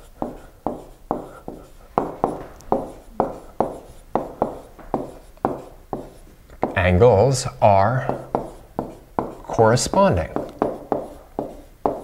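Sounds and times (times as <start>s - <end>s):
stylus tapping on a tablet screen: 0.2s - 6.8s, 8.0s - 12.0s.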